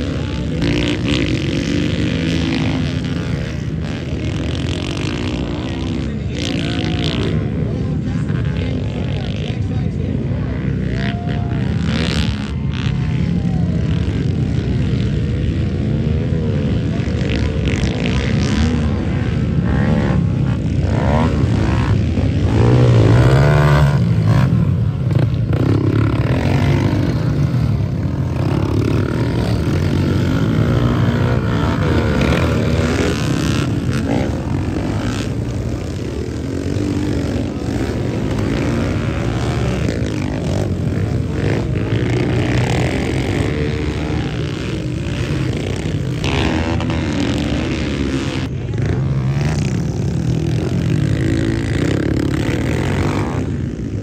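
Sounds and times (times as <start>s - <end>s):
pit bike engines revving: 0.0s - 54.0s.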